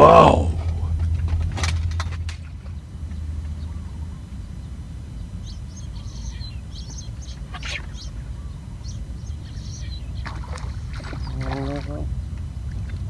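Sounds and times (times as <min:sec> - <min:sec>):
low rumble: 0:00.0 - 0:13.0
small birds chirping: 0:02.4 - 0:13.0.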